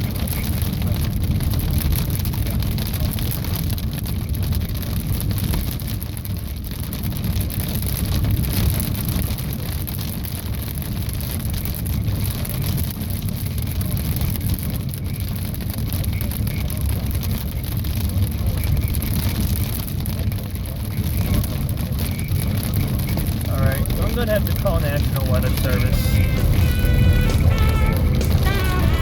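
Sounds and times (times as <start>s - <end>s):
car road and engine rumble: 0.0s - 29.0s
rain pattering on car roof: 0.0s - 29.0s.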